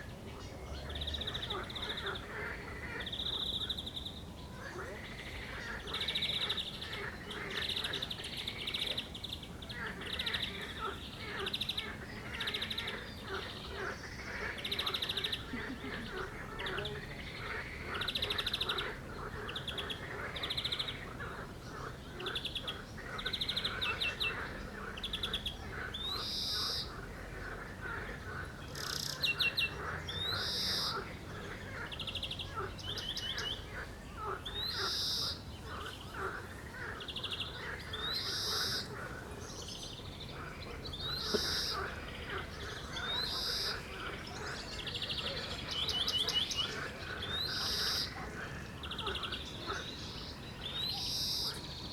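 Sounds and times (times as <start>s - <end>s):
songbird singing: 0.0s - 51.9s
frogs croaking: 0.6s - 51.9s.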